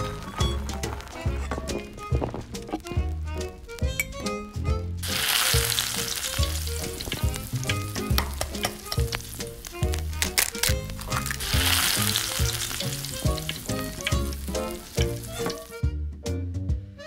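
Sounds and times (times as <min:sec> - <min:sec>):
butter sizzling in wok: 0:00.0 - 0:15.8
music with steady beat: 0:00.0 - 0:17.0.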